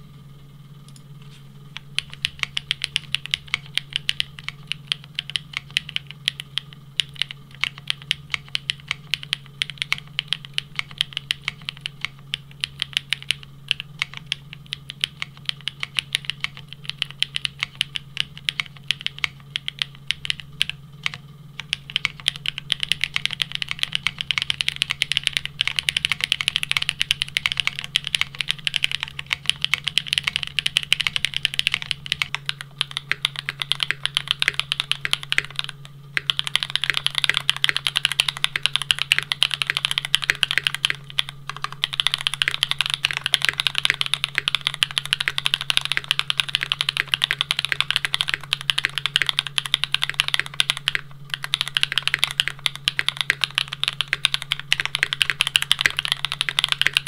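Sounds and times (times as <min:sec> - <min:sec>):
fast typing on mechanical keyboard: 0:01.8 - 0:57.0.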